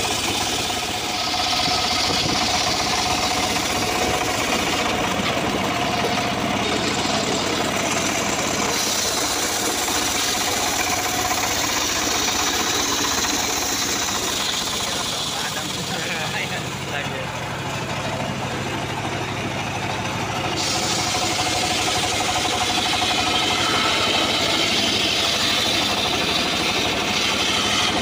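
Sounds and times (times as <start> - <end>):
circular saw cutting wood: 0.0 - 28.0
engine running: 0.0 - 28.0.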